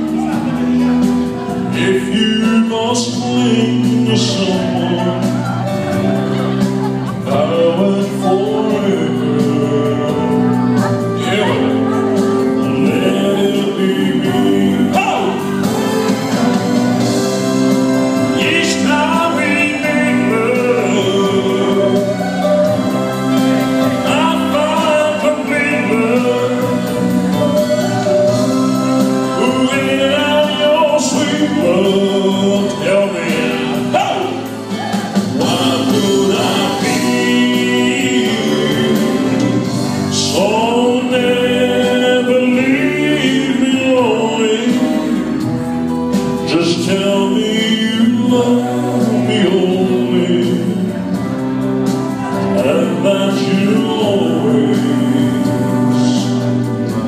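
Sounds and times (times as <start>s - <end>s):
backing track: 0.0s - 57.0s
choir of backing voices: 0.0s - 57.0s
man singing into a microphone: 0.0s - 57.0s.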